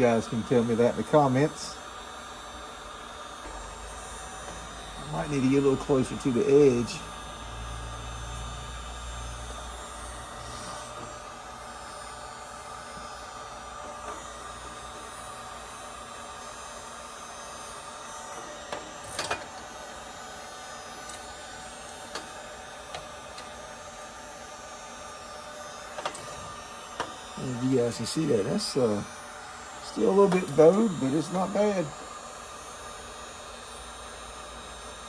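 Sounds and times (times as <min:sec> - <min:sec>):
heat gun humming: 0:00.0 - 0:35.0.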